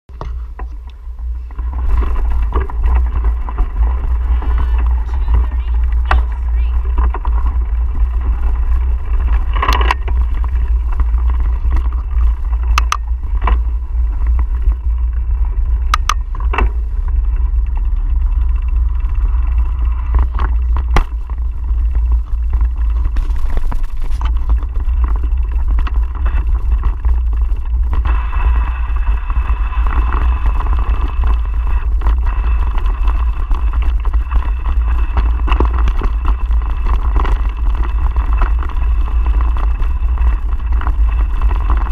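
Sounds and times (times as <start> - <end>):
bike tyres on gravel: 0.0 - 41.9
wind rumble on microphone: 0.0 - 41.9.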